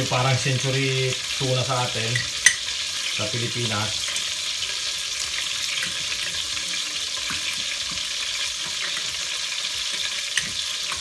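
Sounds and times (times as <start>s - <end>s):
roast sizzling in pot: 0.0s - 11.0s.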